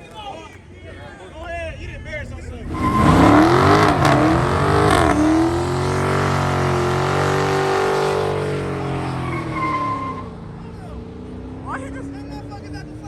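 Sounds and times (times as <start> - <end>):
car engine revving: 1.5 - 13.0.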